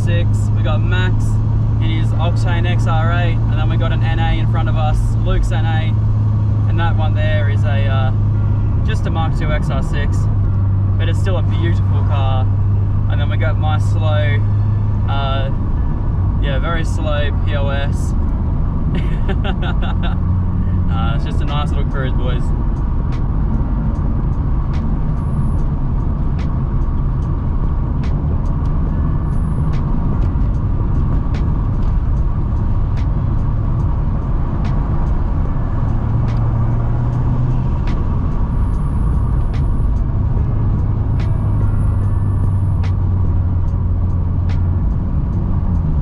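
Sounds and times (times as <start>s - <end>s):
car engine droning: 0.0s - 46.0s
road noise: 0.0s - 46.0s.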